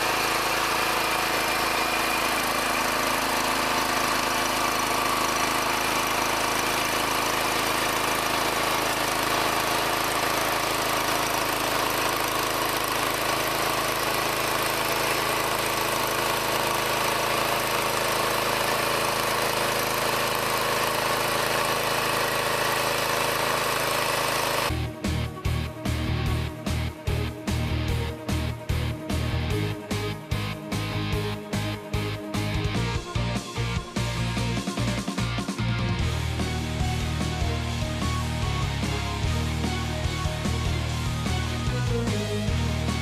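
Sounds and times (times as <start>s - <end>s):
small engine running steadily: 0.0s - 43.0s.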